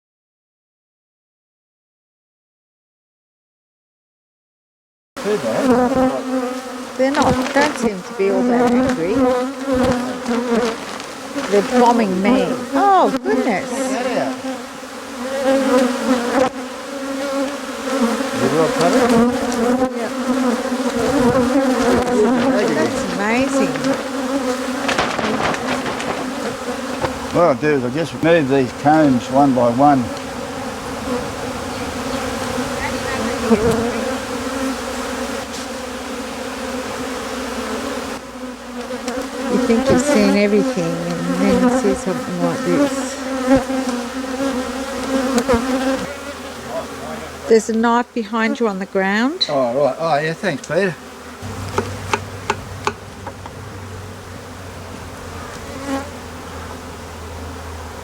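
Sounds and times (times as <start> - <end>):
bee passing close: 5.2 - 58.0
honey bees buzzing: 5.2 - 58.0.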